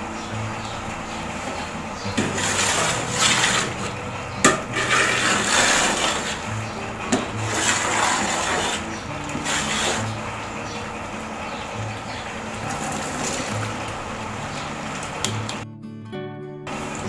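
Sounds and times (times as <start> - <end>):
ladle stirring thick sauce: 0.8 - 15.6.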